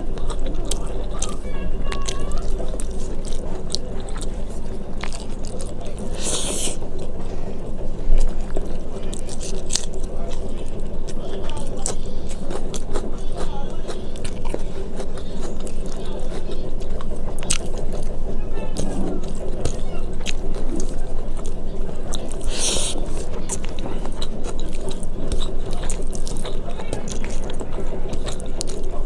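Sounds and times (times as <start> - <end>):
chewing food: 0.0 - 29.0.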